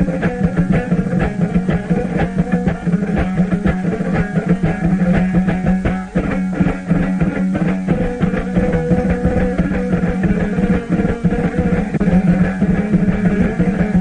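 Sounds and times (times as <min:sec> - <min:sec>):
plucked string instrument: 0:00.0 - 0:14.0.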